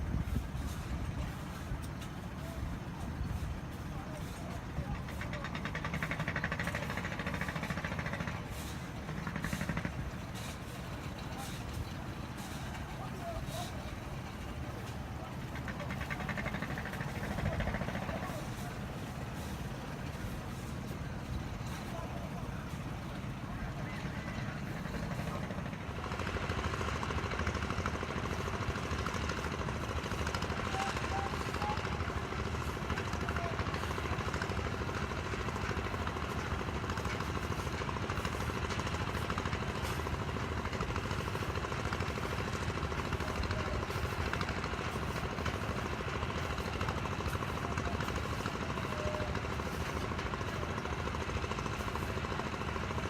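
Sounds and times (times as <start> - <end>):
engine running with fast rattle: 0.0 - 53.0.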